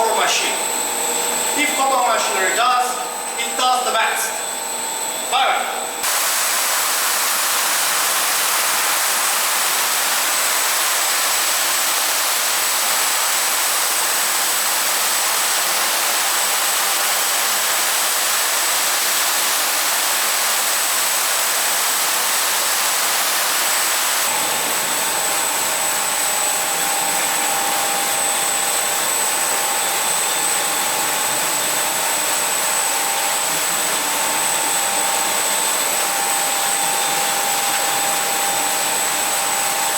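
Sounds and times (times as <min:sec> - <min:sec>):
carpet washing machine rushing: 0:06.0 - 0:39.9.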